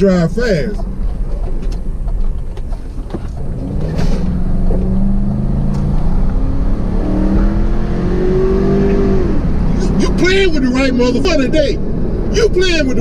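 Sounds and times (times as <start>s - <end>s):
car engine accelerating: 0.0s - 13.0s
road and wind rumble: 0.0s - 13.0s.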